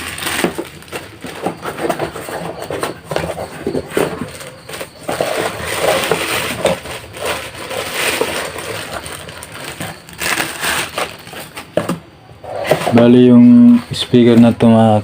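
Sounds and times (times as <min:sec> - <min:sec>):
packaging rustling and crinkling: 0:00.0 - 0:13.4.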